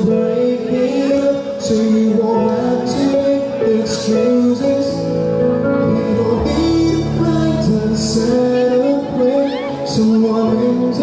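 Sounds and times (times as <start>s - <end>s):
man singing pop song: 0.0s - 11.0s.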